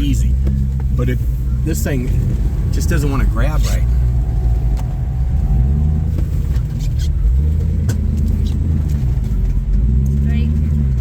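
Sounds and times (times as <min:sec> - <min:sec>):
engine revving under load: 0:00.0 - 0:11.0.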